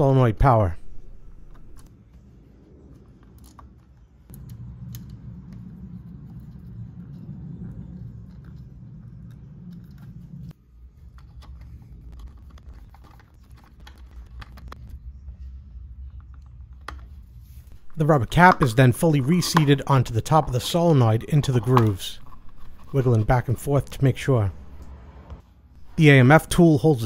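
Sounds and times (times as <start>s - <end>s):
low background rumble: 0.7s - 26.1s.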